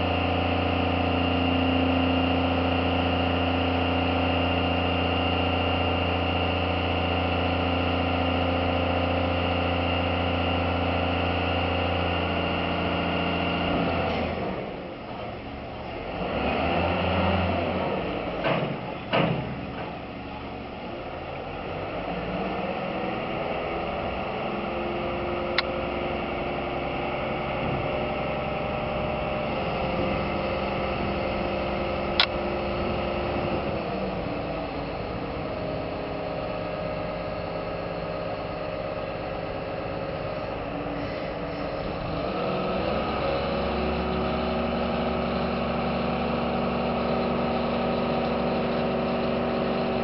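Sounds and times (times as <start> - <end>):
crane diesel engine running: 0.0 - 50.0.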